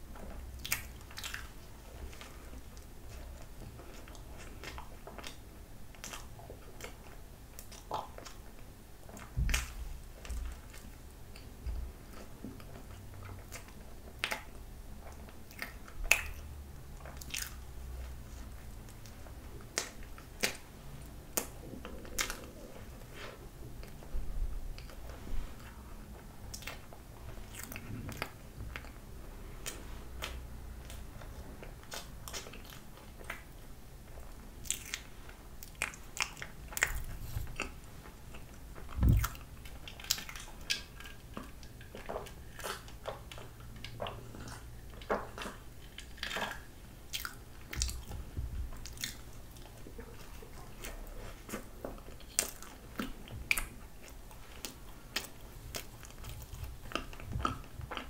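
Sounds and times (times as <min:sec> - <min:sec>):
bread being bitten and chewed: 0:00.0 - 0:58.0.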